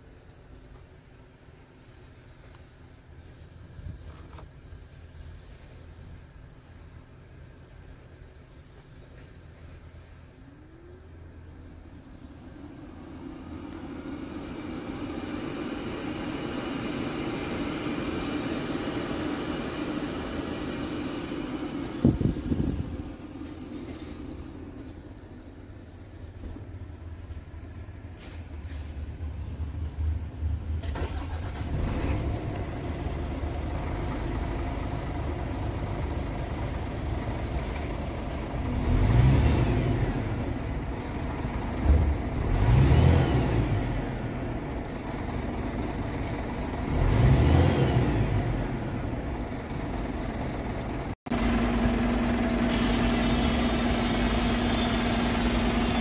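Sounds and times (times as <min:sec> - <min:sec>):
truck engine idling: 0:00.0 - 0:42.9, 0:43.6 - 0:56.0
diesel truck engine starting and revving: 0:09.9 - 0:56.0.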